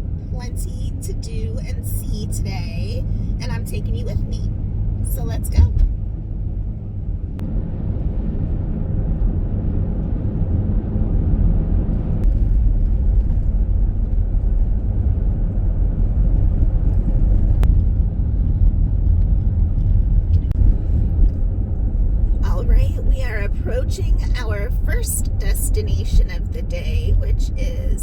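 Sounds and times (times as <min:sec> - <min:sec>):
road and engine rumble in vehicle: 0:00.0 - 0:28.0.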